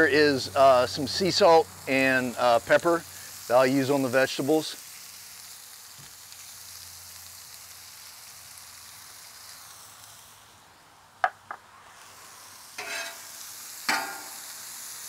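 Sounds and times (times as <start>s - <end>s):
onions sizzling on a griddle: 0.0s - 15.0s.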